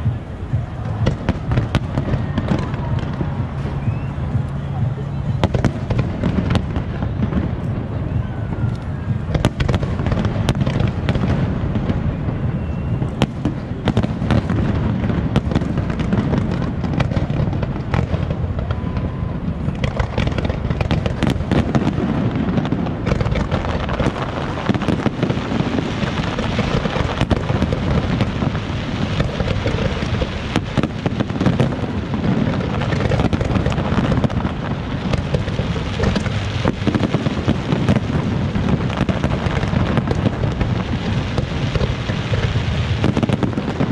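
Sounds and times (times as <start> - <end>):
deep rumble: 0.0 - 43.9
fireworks bursting: 0.0 - 43.9
fireworks crackling: 0.0 - 43.9.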